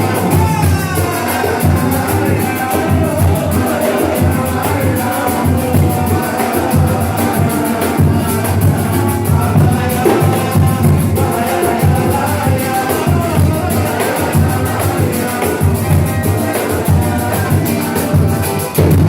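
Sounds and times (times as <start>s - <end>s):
deep drums beating: 0.0s - 19.0s
fast ticking percussion: 0.0s - 19.0s
pitched percussion tones: 0.0s - 19.0s.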